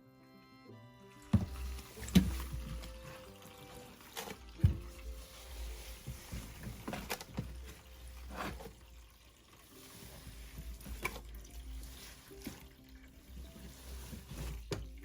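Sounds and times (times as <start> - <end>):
wet laundry being handled: 1.3 - 15.0
water trickling: 1.4 - 15.0.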